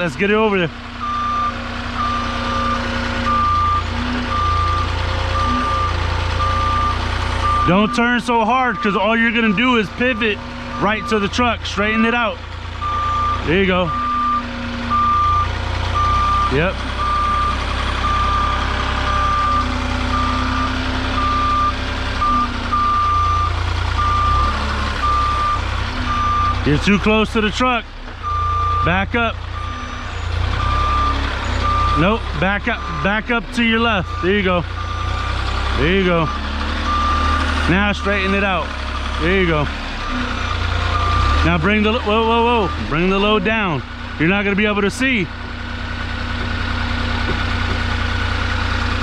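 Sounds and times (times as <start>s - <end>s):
forklift engine running: 0.0s - 49.0s
forklift reversing alarm beeping: 0.9s - 45.0s.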